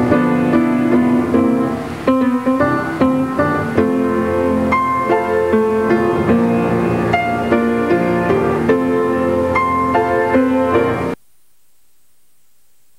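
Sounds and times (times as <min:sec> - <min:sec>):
piano music: 0:00.0 - 0:11.2
faint tape hiss: 0:00.0 - 0:12.9.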